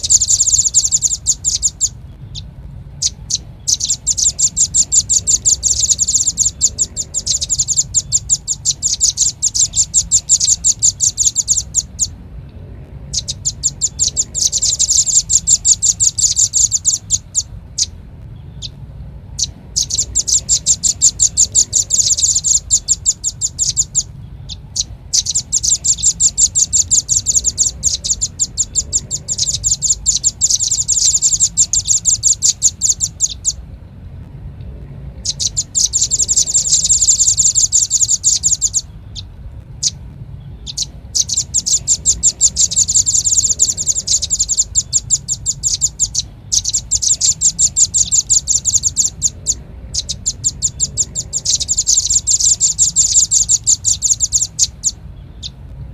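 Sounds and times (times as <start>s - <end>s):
bird sharp chipping calls: 0.0s - 12.2s, 12.8s - 33.6s, 35.1s - 55.7s.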